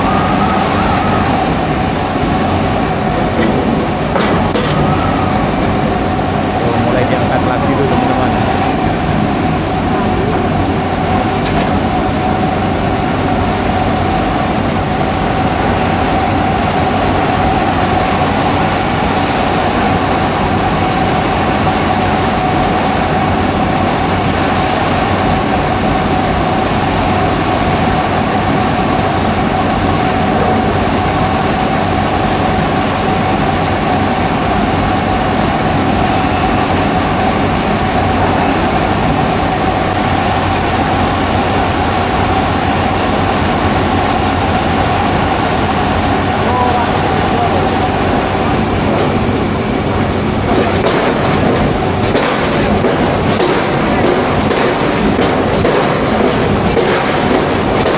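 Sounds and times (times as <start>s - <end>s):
mechanical drone with whine: 0.0s - 57.9s.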